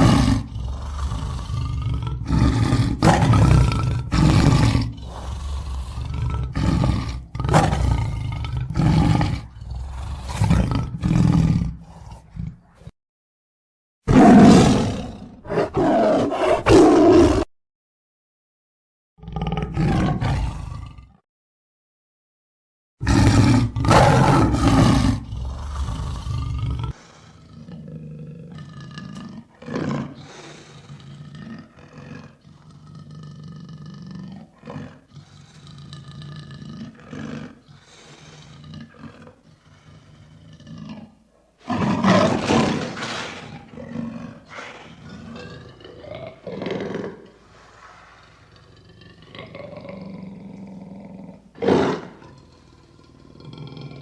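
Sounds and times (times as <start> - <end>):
lion roaring: 0.0 - 12.9, 14.1 - 17.5, 19.2 - 21.2, 23.0 - 54.0.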